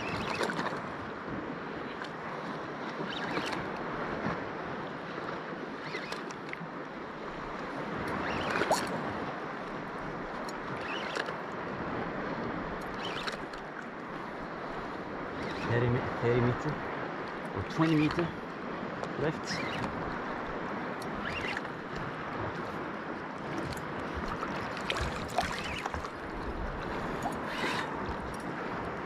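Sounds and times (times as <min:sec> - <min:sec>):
shallow sea water lapping: 0:00.0 - 0:29.0.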